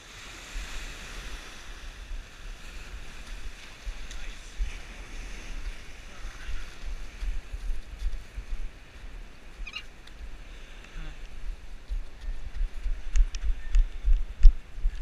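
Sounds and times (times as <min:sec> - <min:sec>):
surf washing up beach: 0:00.0 - 0:14.9
wind buffeting microphone: 0:00.3 - 0:15.0.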